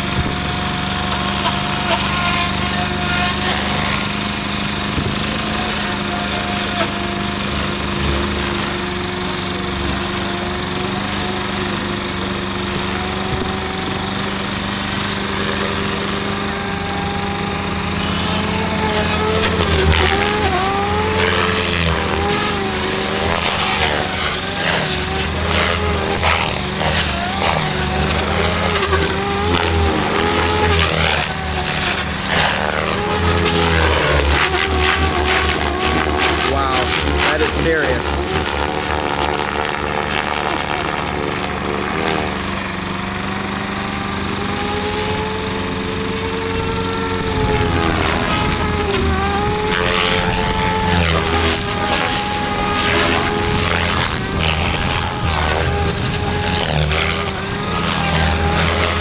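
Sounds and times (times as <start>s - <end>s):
helicopter motor and rotor whine: 0.0s - 59.0s.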